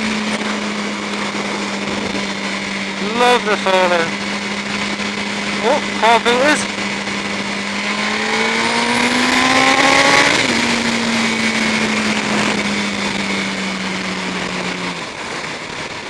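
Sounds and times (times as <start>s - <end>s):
motorcycle engine revving: 0.0s - 16.0s
wind rushing on microphone: 0.0s - 16.0s.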